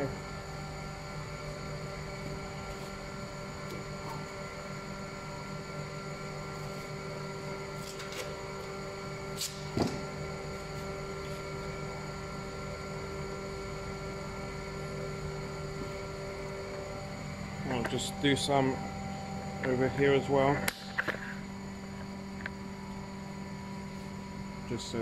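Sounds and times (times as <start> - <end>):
steady multi-tone hum: 0.0 - 25.0.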